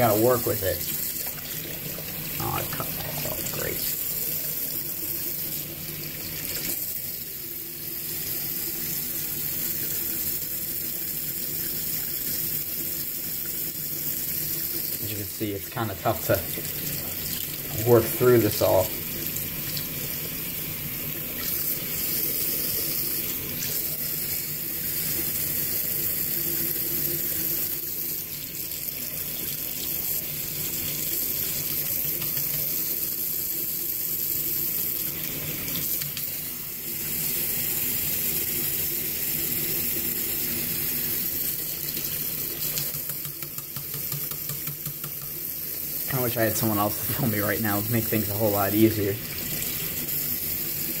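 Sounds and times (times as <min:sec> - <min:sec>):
water running from sink tap: 0:00.0 - 0:51.0.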